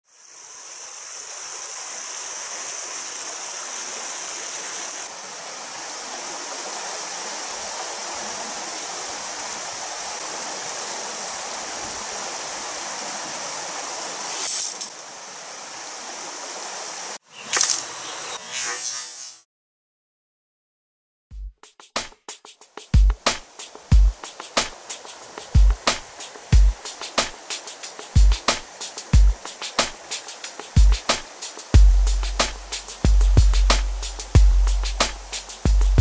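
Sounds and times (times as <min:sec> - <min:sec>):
stream rushing over stones: 0:00.0 - 0:18.4, 0:22.6 - 0:36.0.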